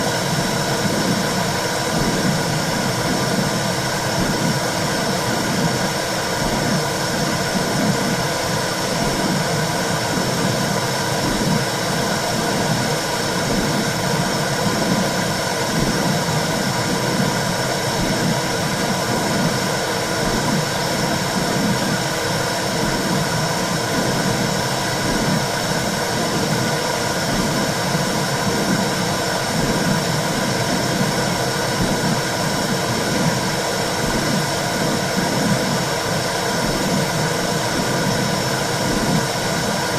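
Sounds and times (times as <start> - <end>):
low pulsing rumble: 0.0 - 39.9.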